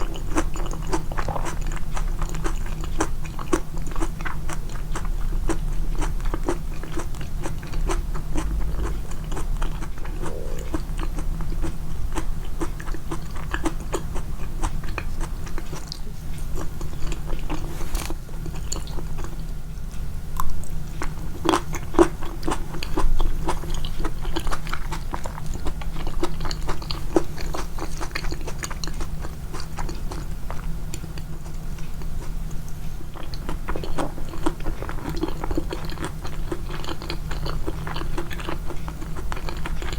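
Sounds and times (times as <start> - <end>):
chewing crunchy food: 0.0 - 39.9
steady low hum: 0.0 - 39.9.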